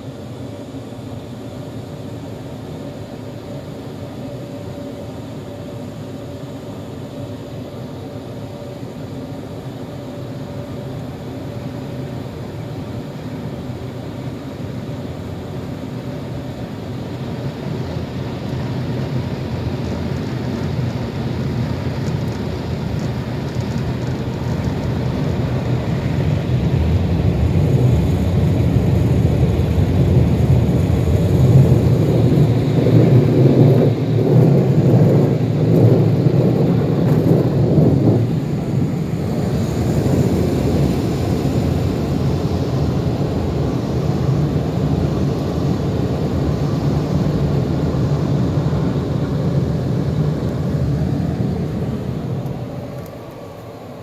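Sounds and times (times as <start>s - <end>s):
car wash air blowers rushing: 7.2s - 54.0s.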